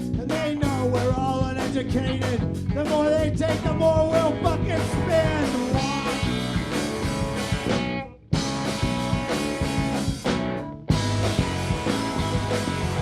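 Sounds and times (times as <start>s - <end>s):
rock band playing instrumental: 0.0s - 13.0s.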